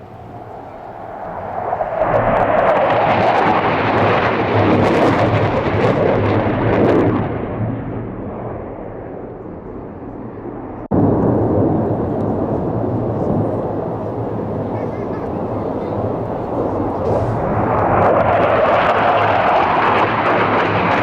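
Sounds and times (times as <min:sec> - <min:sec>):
jet roaring past low: 0:00.0 - 0:21.0.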